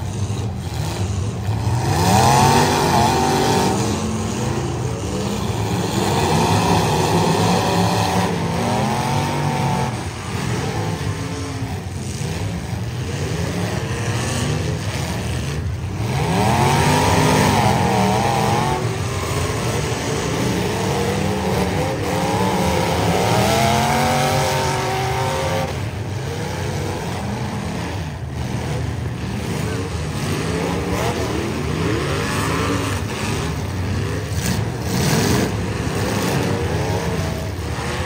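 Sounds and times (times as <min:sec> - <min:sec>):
car engines revving hard: 0:00.0 - 0:38.0.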